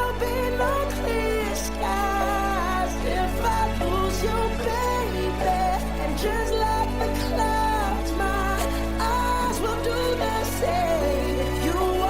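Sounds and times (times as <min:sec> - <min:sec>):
pop r and b music: 0:00.0 - 0:12.0.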